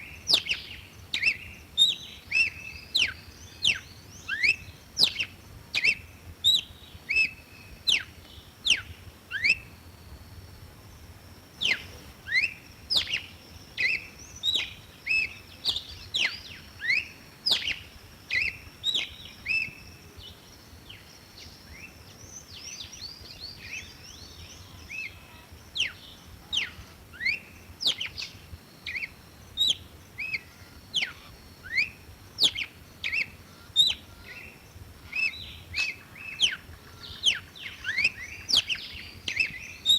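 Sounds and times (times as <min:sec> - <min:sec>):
bird whistled song: 0:00.0 - 0:09.8, 0:11.6 - 0:39.9.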